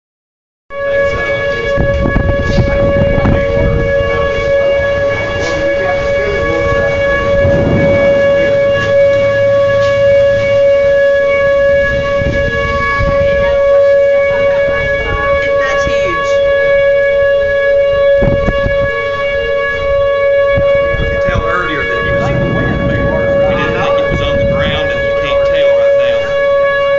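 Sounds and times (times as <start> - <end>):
warning siren two-note tone: 0.7 - 26.9
wind rumble on microphone: 1.1 - 26.9.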